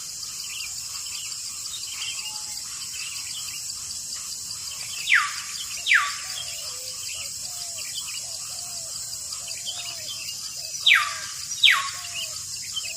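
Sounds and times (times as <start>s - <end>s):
birds calling: 0.0s - 12.9s
high insect drone: 0.0s - 12.9s.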